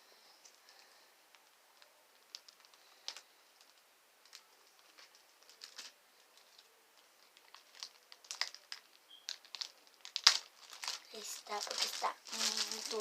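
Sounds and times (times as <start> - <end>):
plastic bag crinkling: 0.4 - 13.0.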